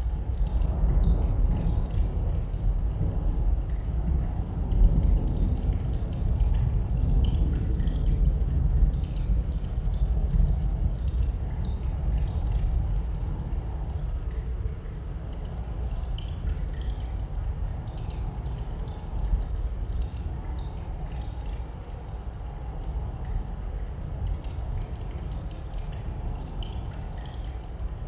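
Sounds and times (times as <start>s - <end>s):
low wind rumble: 0.0s - 28.0s
water dripping: 0.0s - 28.0s.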